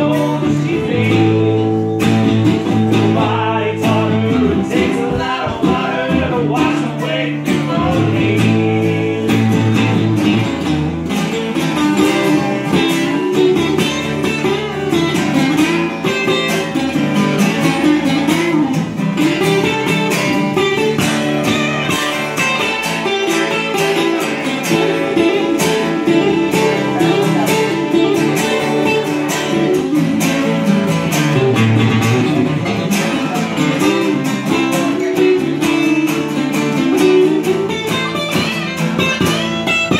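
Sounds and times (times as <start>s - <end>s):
acoustic guitars playing: 0.0s - 39.9s.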